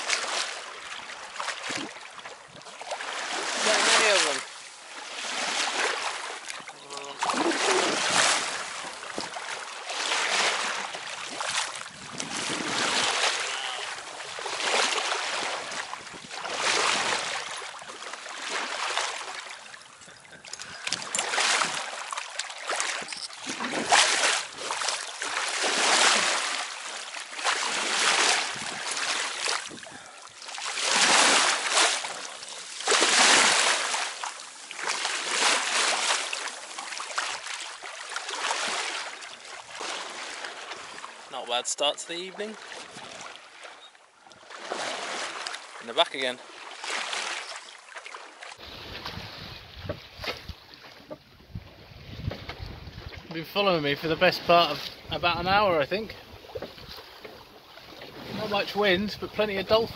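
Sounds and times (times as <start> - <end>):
water splashing along hull: 0.0 - 59.9.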